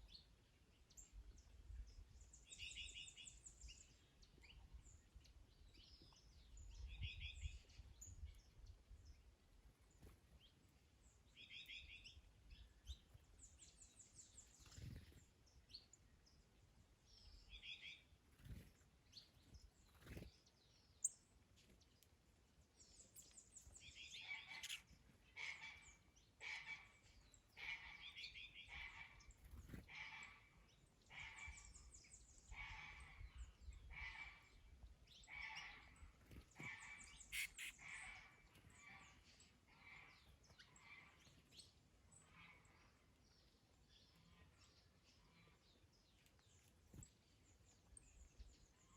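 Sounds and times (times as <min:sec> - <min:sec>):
faint birdsong: 0:00.0 - 0:48.9.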